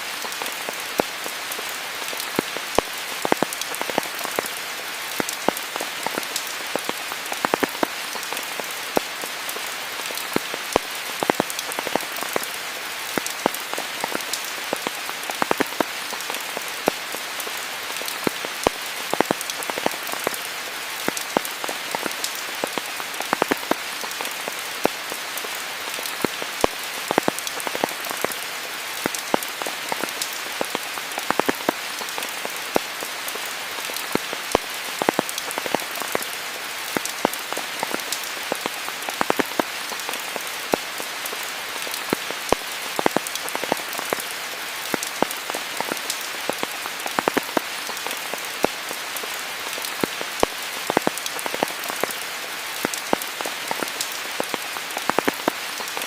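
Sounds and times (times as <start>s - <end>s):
rain falling: 0.0s - 56.0s
raindrops ticking on surfaces: 0.0s - 56.0s.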